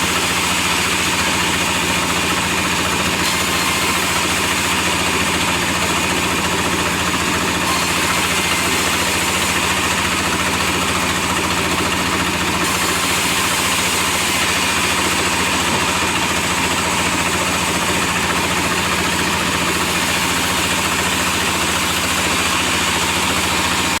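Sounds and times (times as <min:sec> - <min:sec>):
sawmill motor drone: 0:00.0 - 0:24.0.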